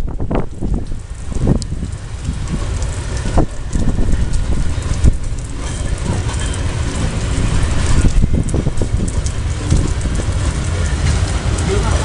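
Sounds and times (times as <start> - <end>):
freight train rumbling past: 0.0 - 12.0
wagons knocking on rails: 2.3 - 12.0.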